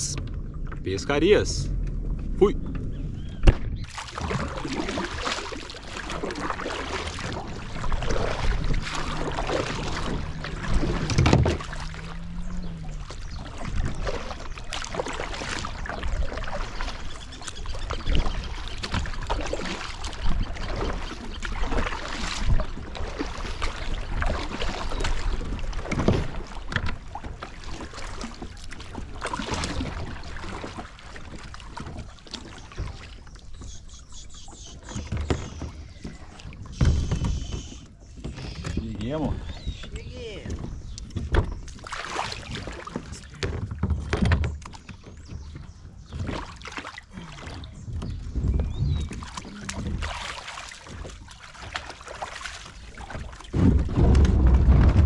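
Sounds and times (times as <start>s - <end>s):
water splashing around a kayak: 0.0s - 55.0s.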